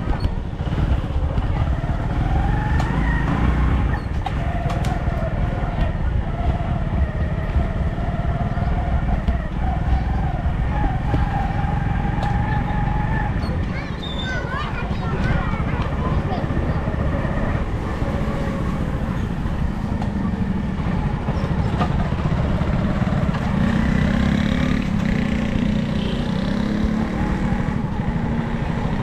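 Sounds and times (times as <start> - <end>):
engine running with low rumble: 0.0 - 29.0.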